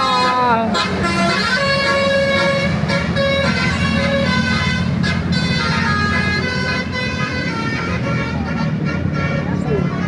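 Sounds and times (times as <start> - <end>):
bus engine running: 0.0 - 10.0
multi-tone bus horn tune: 0.0 - 10.0.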